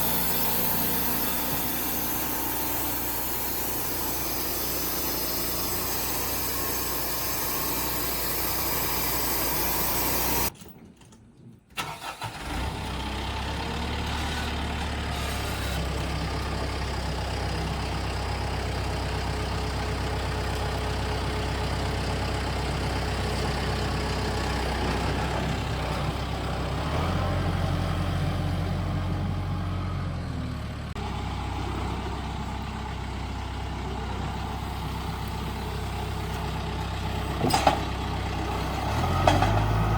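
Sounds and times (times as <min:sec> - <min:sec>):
engine idling: 0:00.0 - 0:10.5, 0:13.0 - 0:26.9, 0:28.6 - 0:39.9.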